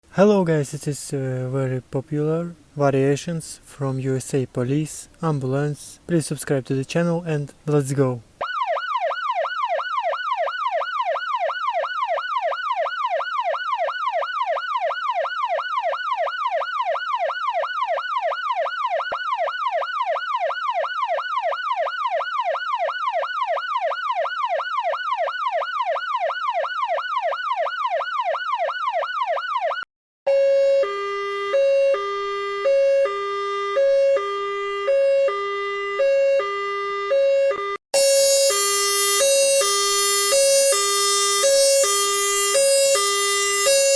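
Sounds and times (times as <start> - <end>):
shrill two-tone siren: 8.4 - 43.9
siren yelp: 8.4 - 43.9
two-tone hi-lo siren: 8.4 - 43.9.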